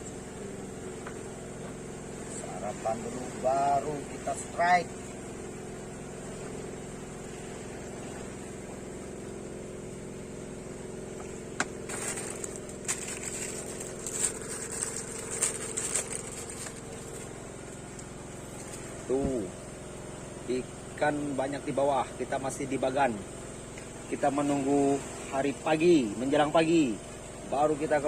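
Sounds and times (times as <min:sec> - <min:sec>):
small engine humming: 0:00.0 - 0:28.0.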